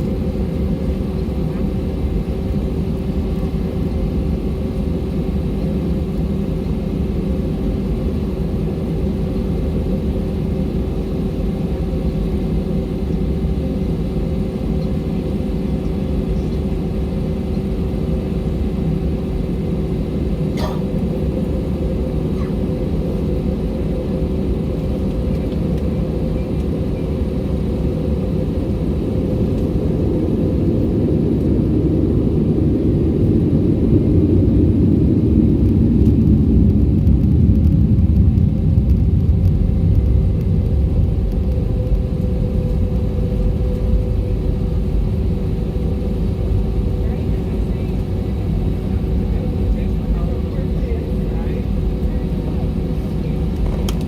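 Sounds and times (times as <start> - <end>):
jet engines in cabin rumbling: 0.0 - 54.0.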